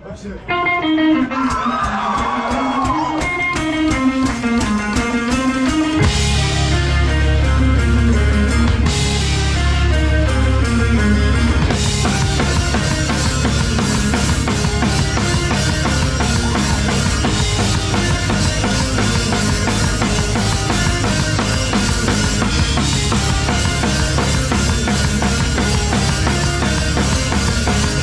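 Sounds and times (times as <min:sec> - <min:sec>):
rock band playing: 0:00.2 - 0:28.0
electric guitar: 0:00.4 - 0:28.0.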